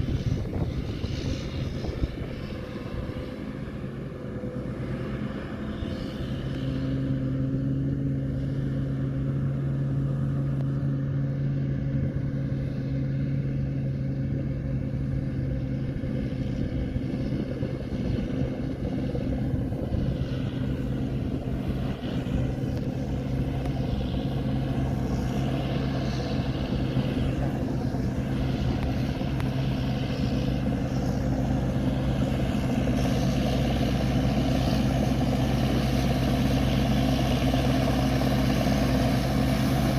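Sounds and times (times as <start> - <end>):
harvester engine humming: 0.0 - 39.9.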